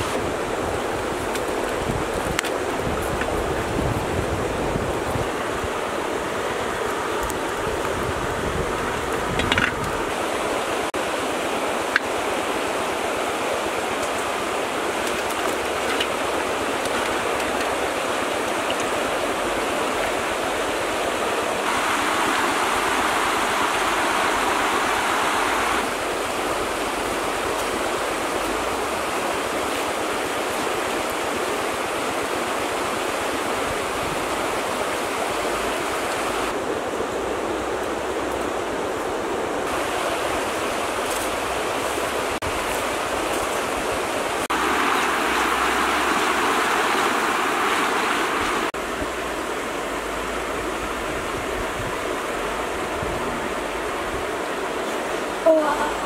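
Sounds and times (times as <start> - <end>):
flowing stream water: 0.0 - 56.0.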